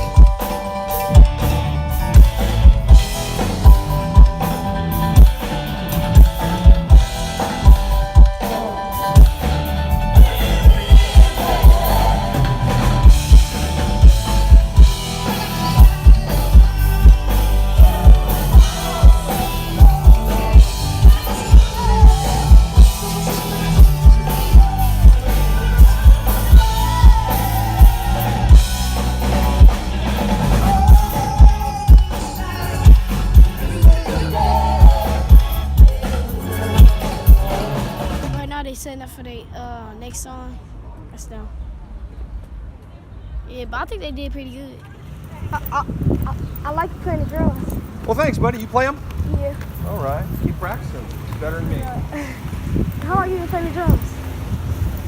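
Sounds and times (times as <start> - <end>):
live band playing: 0.0 - 40.5, 45.5 - 55.0.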